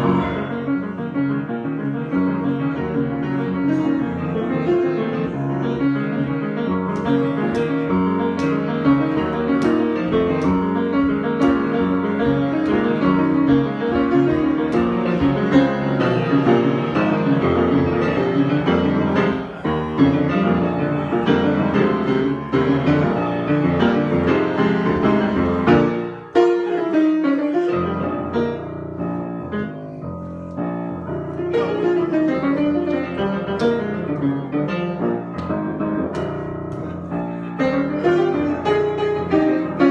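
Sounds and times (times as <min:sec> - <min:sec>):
solo piano improvising: 0:00.0 - 0:39.9.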